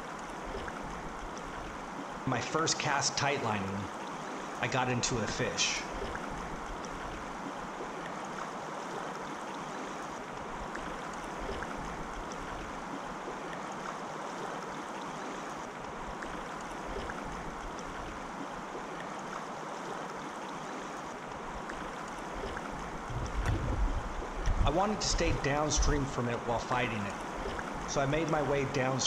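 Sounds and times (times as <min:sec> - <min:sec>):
river water rushing over cobbles: 0:00.0 - 0:29.0.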